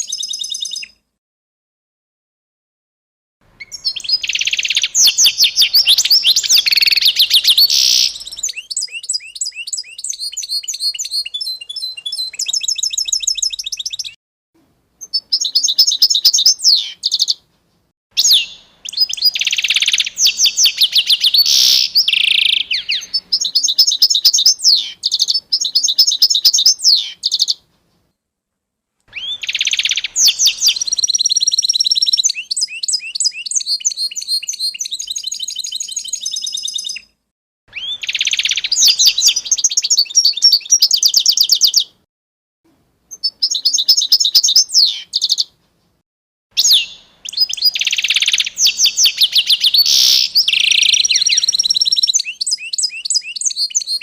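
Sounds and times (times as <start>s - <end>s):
songbirds trilling and chirping: 3.5s - 14.2s, 15.0s - 17.4s, 18.2s - 28.0s, 29.1s - 37.1s, 37.7s - 42.0s, 43.1s - 45.6s, 46.6s - 54.0s.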